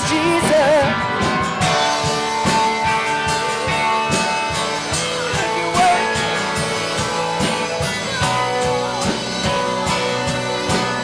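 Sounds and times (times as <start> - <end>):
drum kit steady beat: 0.0 - 11.0
guitar: 0.0 - 11.0.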